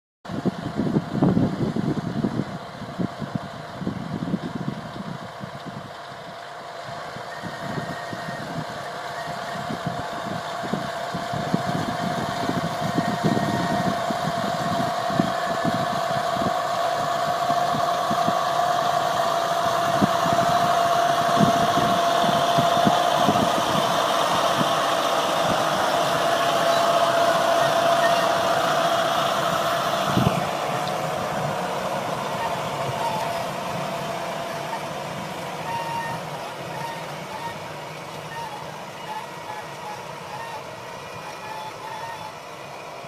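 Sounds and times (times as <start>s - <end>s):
machine engine running with whine: 0.3s - 43.0s.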